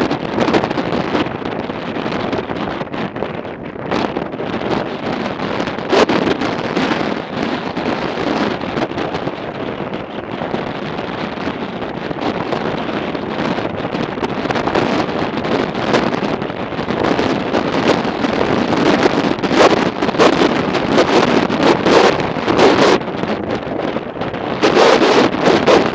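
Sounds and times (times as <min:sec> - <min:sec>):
motorcycle road and engine noise: 0:00.0 - 0:25.9
wind buffeting microphone: 0:00.0 - 0:25.9.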